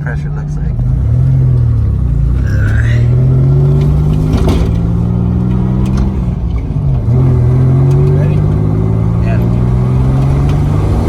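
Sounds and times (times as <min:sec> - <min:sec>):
car engine chugging under load: 0:00.0 - 0:11.0.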